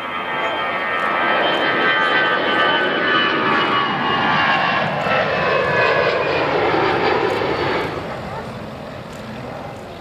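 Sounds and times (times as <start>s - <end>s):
jet engines roaring at takeoff: 0.0s - 10.0s
many-toned engine whine: 0.0s - 10.0s.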